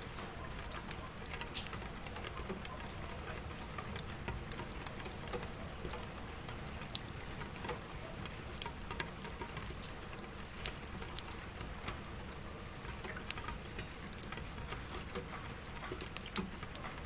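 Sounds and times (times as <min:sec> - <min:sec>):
raindrops ticking on a surface: 0:00.0 - 0:17.0
steady rain falling: 0:00.0 - 0:17.0.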